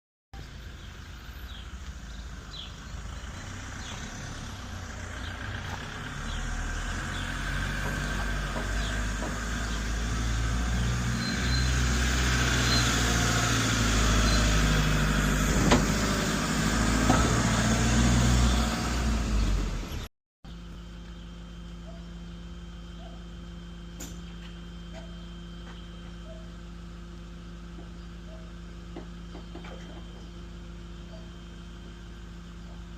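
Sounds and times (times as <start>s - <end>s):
truck engine droning: 0.4s - 32.9s.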